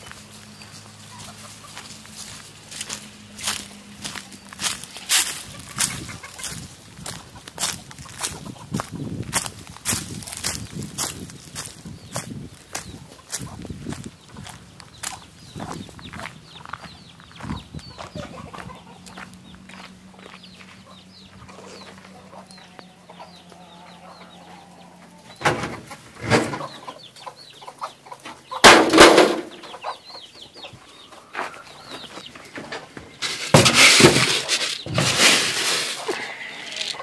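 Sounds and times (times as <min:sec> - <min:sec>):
chickens clucking: 0:00.0 - 0:37.0.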